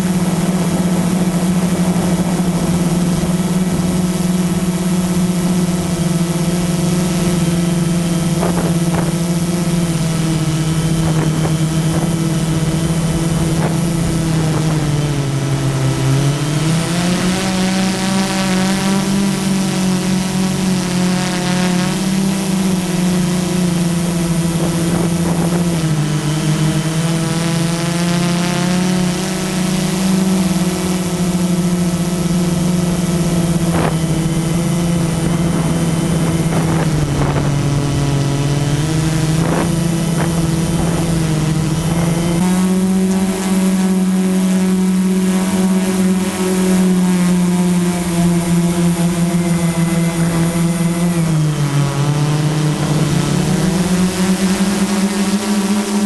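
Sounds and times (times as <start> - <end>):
drone motors humming: 0.0 - 56.0.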